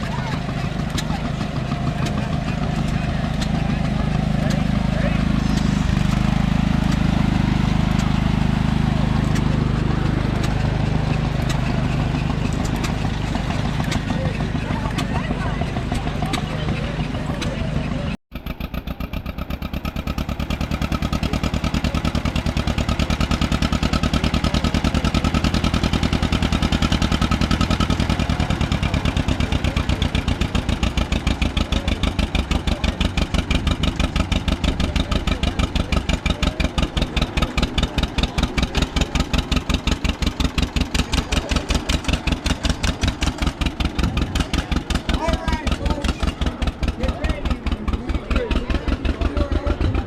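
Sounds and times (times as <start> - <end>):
antique engine idling: 0.0 - 50.0.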